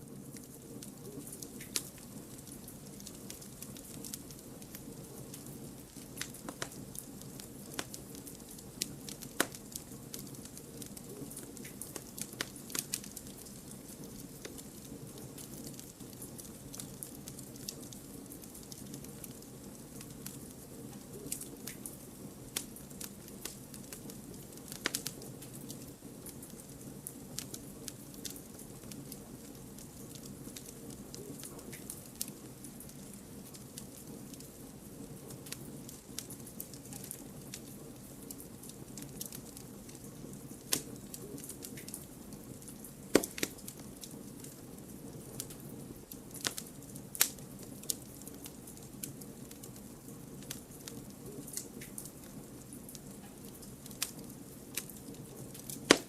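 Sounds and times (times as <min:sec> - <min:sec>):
logs crackling and popping: 0:00.0 - 0:56.0
campfire flame rushing: 0:00.3 - 0:56.0.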